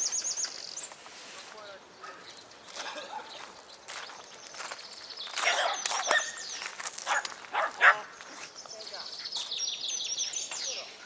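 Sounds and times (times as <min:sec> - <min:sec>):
birds chirping in high trills: 0:00.0 - 0:01.1, 0:01.8 - 0:06.8, 0:08.1 - 0:11.0.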